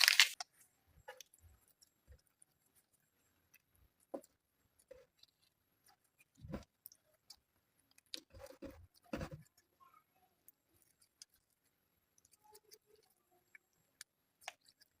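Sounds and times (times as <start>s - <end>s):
slime squishes: 0.0s - 9.8s, 10.4s - 15.0s.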